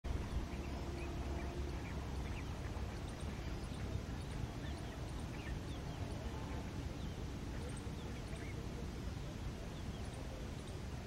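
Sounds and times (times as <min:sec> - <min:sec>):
steady low rumble: 0:00.1 - 0:11.0.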